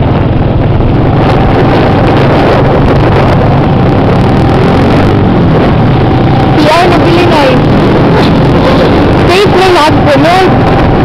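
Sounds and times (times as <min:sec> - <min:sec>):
wind on microphone: 0:00.0 - 0:11.0
small engine running: 0:00.4 - 0:11.0.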